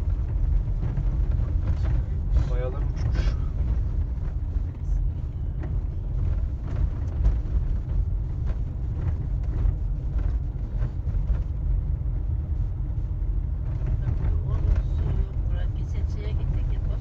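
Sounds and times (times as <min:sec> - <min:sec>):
car knocks and rattles: 0:00.0 - 0:17.0
engine and tyres rumbling: 0:00.0 - 0:17.0.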